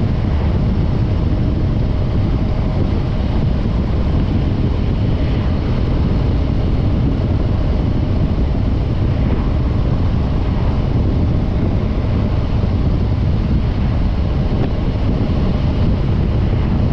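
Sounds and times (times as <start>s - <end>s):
wind noise on microphone: 0.0s - 16.9s.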